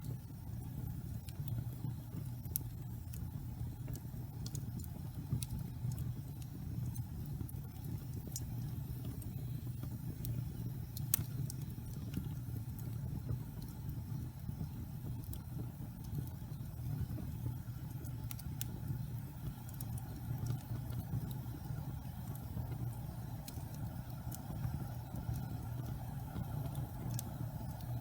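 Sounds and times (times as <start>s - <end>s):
log fire low rumble: 0.0s - 28.0s
wood crackling and popping: 0.0s - 28.0s.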